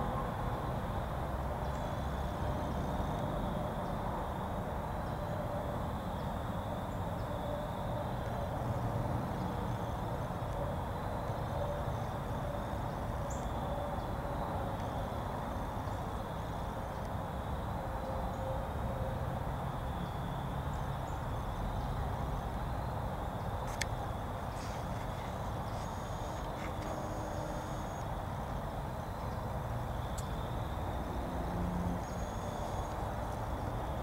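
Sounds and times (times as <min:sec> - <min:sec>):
high insect drone: 0:00.0 - 0:34.0
woodland background noise: 0:00.0 - 0:34.0.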